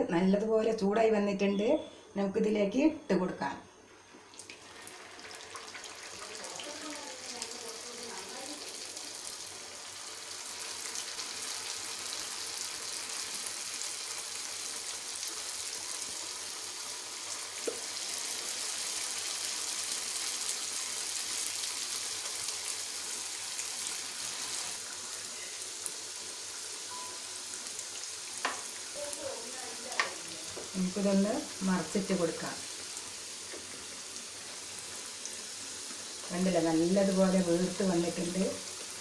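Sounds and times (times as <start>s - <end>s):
dough sizzling in hot oil: 3.8s - 39.0s.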